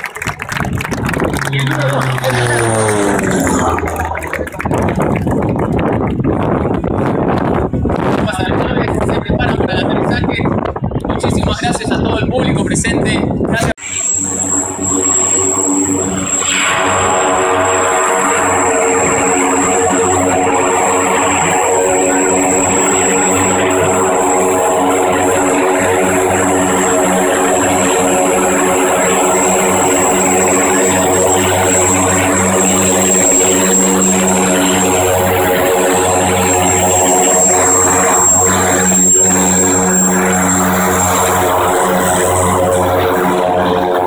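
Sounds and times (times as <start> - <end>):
high turbine whine: 0.0 - 44.0
propeller drone: 0.0 - 44.0.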